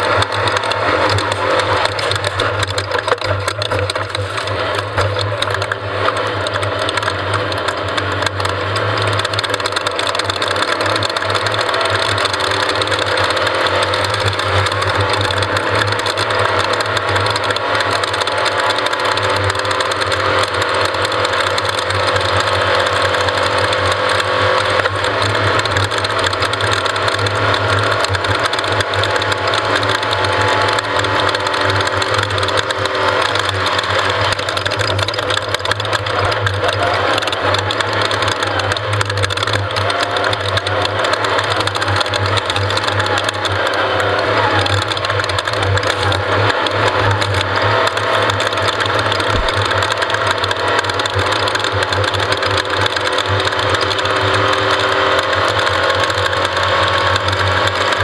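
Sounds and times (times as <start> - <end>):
engine running loudly: 0.0 - 58.0.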